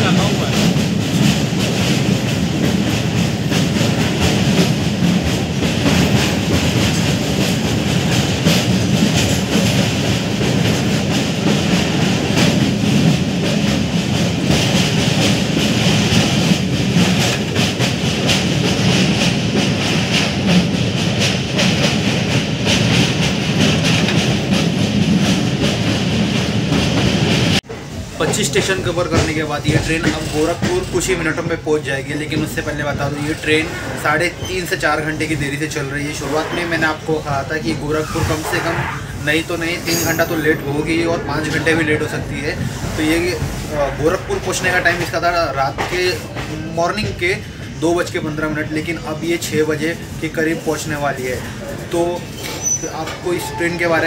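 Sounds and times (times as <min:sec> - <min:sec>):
clickety-clack over rail joints: 0:00.0 - 0:54.0
train wheels rumbling: 0:00.0 - 0:54.0.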